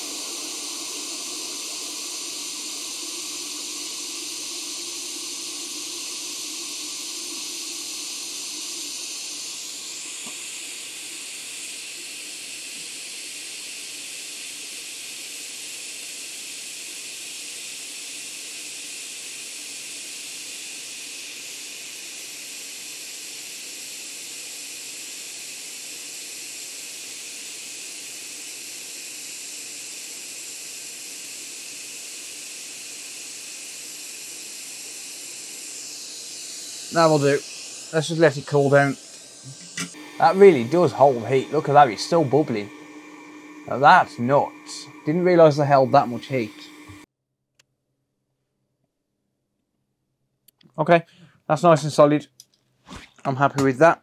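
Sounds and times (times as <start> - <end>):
hot air station hissing: 0.0 - 47.1, 50.8 - 52.2.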